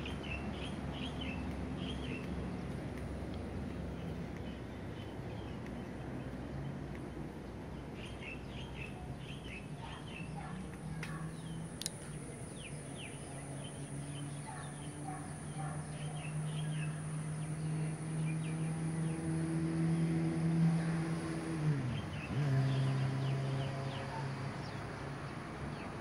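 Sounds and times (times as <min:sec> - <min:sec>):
birds chirping: 0:00.0 - 0:19.4, 0:21.2 - 0:26.0.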